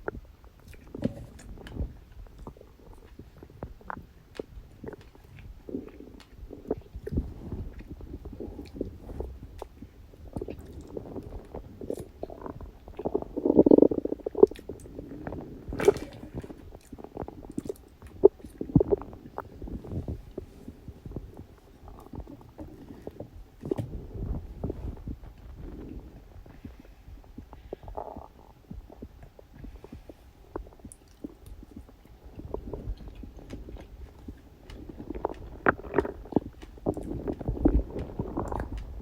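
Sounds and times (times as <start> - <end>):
stomach gurgling and rumbling: 0.0 - 39.0.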